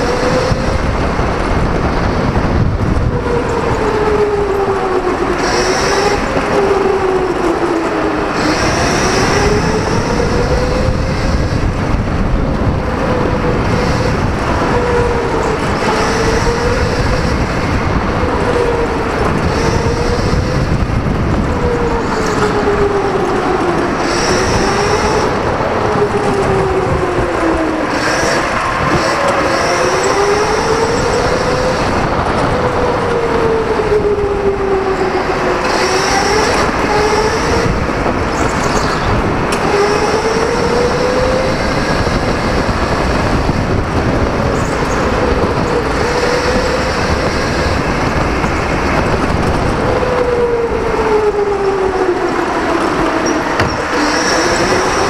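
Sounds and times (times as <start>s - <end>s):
electric go-kart motor whine: 0.0s - 55.0s
higher whine under acceleration: 0.0s - 55.0s
steady rumble: 0.0s - 55.0s.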